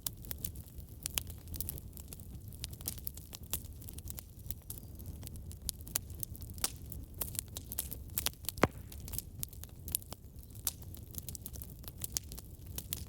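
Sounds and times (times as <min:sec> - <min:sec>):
low fire rumble: 0:00.0 - 0:13.0
wood fire crackling: 0:00.0 - 0:13.0.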